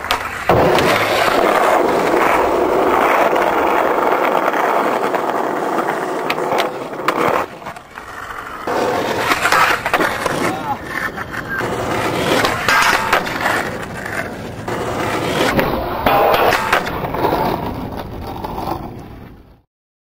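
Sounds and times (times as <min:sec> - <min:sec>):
skateboard clacks: 0:00.0 - 0:19.6
skateboard wheels rolling on asphalt: 0:00.0 - 0:19.7.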